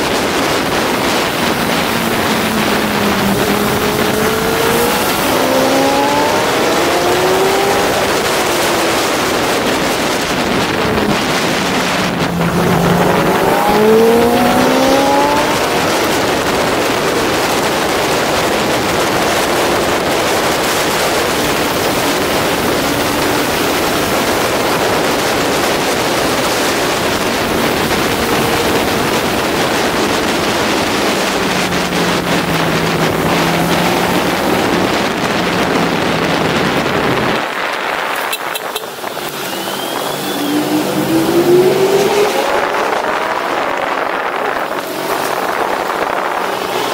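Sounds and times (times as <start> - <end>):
motorcycle engine running at speed: 0.0 - 46.9
wind rush: 0.0 - 46.9.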